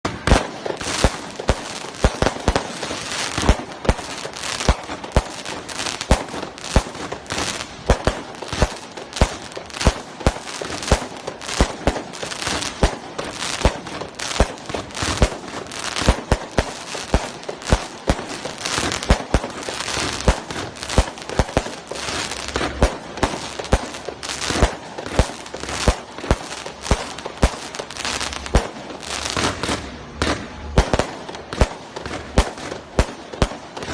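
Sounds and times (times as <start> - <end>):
firework bangs: 0.0 - 33.9
firework crackling hiss: 0.1 - 33.9.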